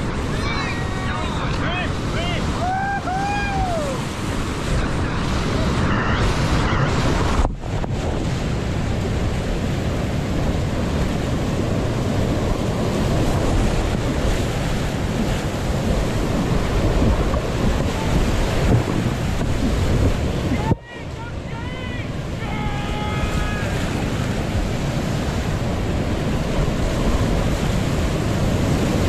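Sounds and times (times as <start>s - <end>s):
whitewater rushing: 0.0s - 29.0s
wind buffeting microphone: 0.0s - 29.0s.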